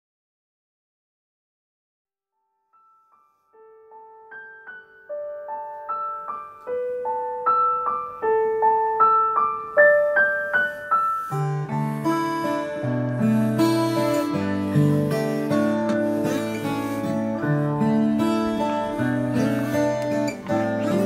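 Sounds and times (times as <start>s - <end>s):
piano-like keyboard melody: 2.7s - 21.0s.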